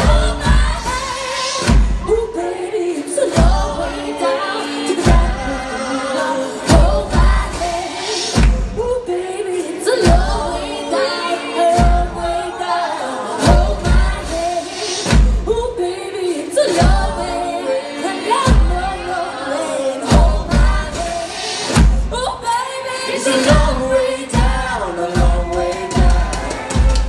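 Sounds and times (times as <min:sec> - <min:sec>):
voices singing in harmony: 0:00.0 - 0:27.0.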